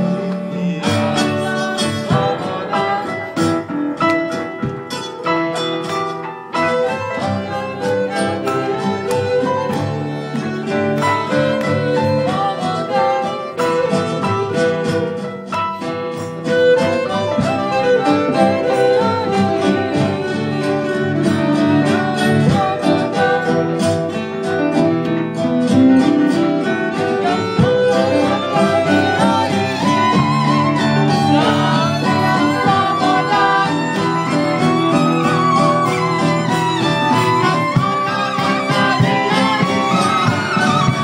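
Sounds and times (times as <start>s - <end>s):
acoustic guitar accompaniment: 0.0s - 41.0s
bowed violin melody: 0.0s - 41.0s.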